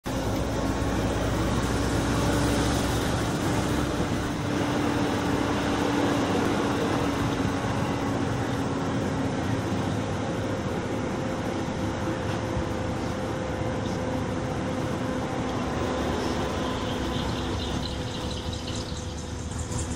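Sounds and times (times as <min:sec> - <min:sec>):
engine and road noise: 0:00.0 - 0:19.9
truck exhaust sound: 0:00.0 - 0:19.9.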